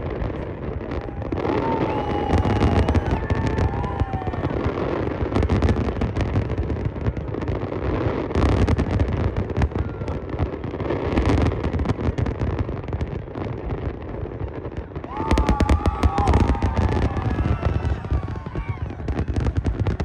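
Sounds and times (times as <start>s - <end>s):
firework bangs and crackling: 0.0s - 20.0s.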